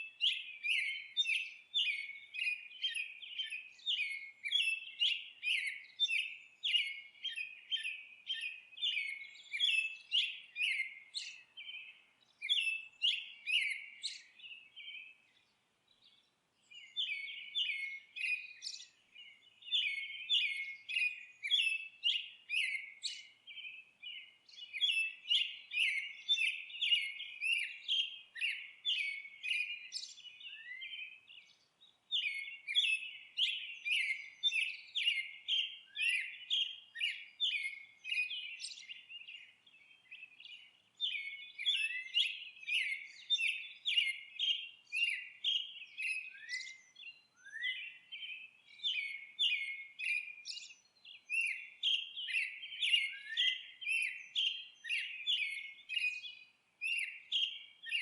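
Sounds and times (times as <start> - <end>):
songbirds twittering: 0.0 - 58.0.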